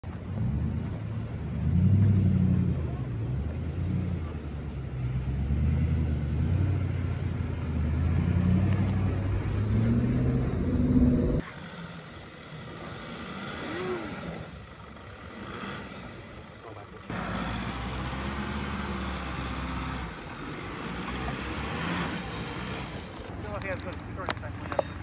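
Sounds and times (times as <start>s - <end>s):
distant vehicle engine: 0.0s - 25.0s
off-road vehicle engine under load: 0.0s - 25.0s.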